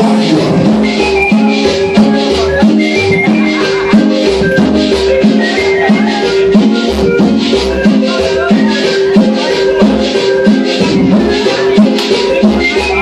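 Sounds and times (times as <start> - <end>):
cumbia music with steady beat: 0.0 - 13.0.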